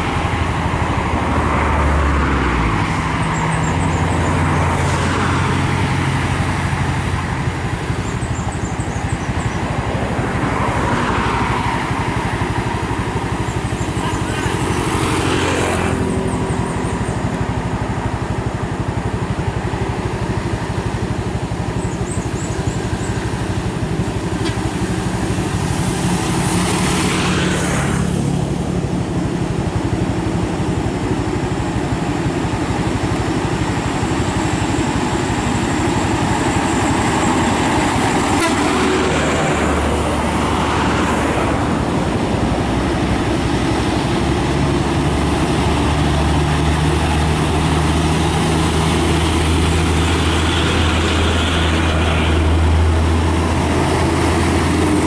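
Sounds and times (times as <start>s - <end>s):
diesel trucks engine drone: 0.0s - 55.0s
vehicles rushing past: 0.0s - 55.0s.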